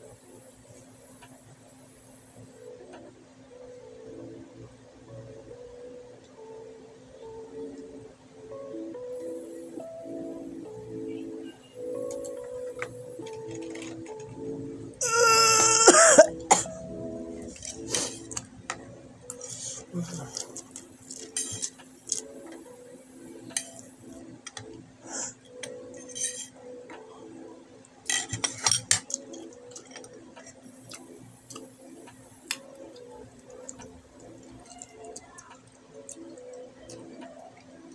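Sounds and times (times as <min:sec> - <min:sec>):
faint background music: 0:00.0 - 0:37.9.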